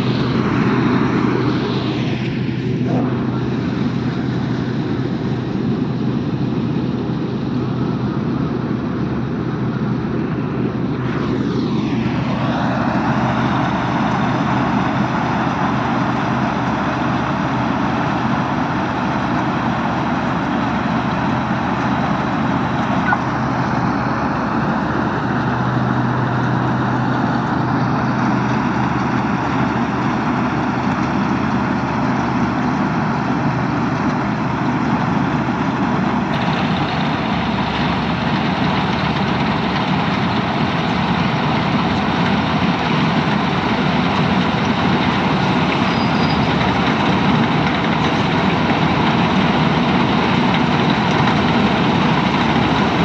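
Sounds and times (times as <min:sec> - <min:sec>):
combine harvester droning: 0:00.0 - 0:53.0.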